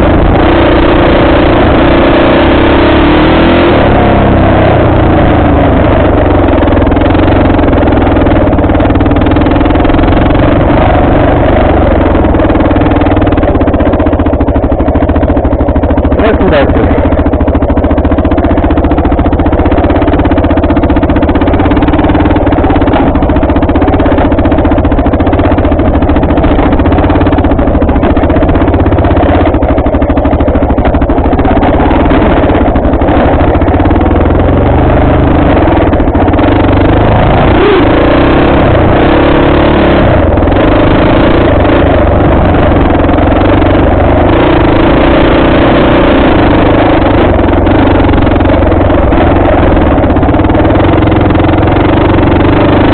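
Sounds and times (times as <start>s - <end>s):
off-road vehicle engine running: 0.0s - 52.9s.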